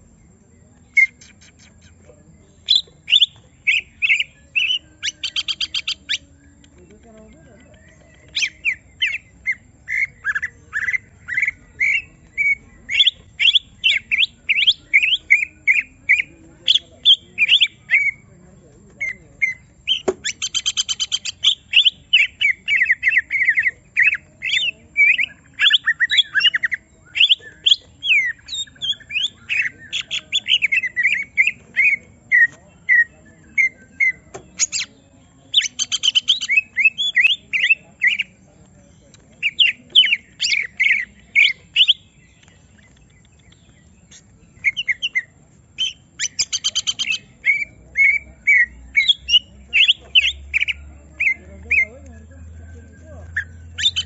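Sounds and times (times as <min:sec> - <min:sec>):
bird singing whistles and trills: 0:00.8 - 0:18.3, 0:19.0 - 0:54.0.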